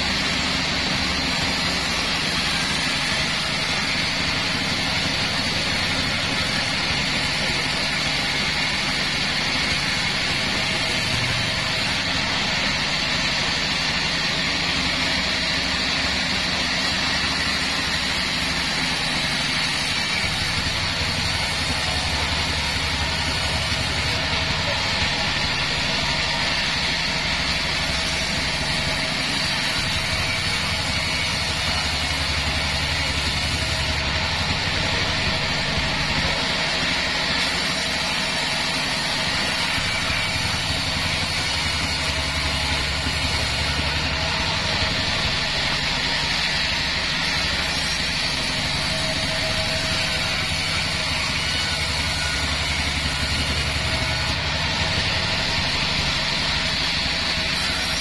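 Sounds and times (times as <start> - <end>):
band sawmill blade sawing log: 0.0 - 58.0.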